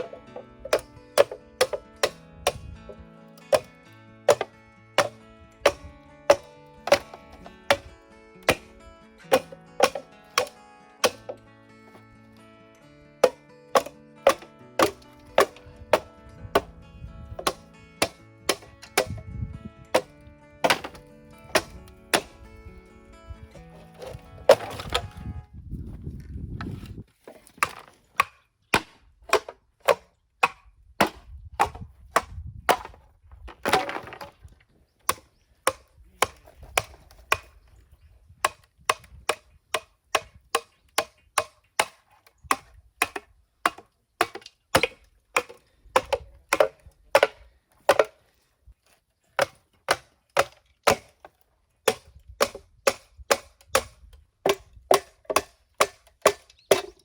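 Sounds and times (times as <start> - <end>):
bamboo splitting crack: 0.0 - 2.7, 3.4 - 3.7, 4.3 - 11.4, 13.2 - 16.8, 17.4 - 19.3, 19.9 - 22.6, 23.7 - 25.2, 26.9 - 37.7, 38.4 - 57.0
bamboo chopping strikes: 0.0 - 3.7, 4.3 - 11.4, 13.2 - 16.7, 17.4 - 19.2, 19.9 - 22.5, 23.8 - 25.2, 27.3 - 33.0, 33.6 - 34.3, 35.1 - 37.6, 38.4 - 48.2, 49.4 - 57.0.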